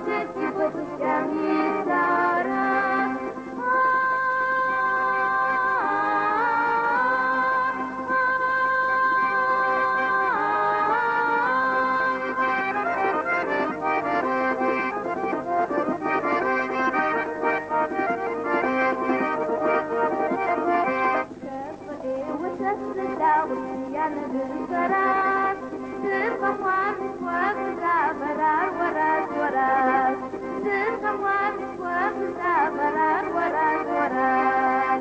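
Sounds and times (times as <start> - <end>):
accordion folk music: 0.0 - 35.0.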